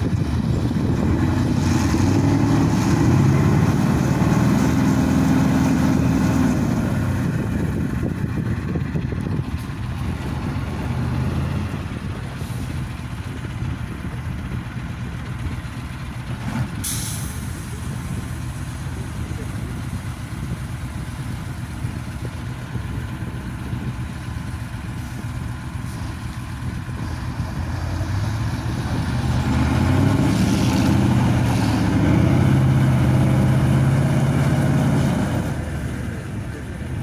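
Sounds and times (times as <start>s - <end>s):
truck diesel engine under load: 0.0s - 37.0s.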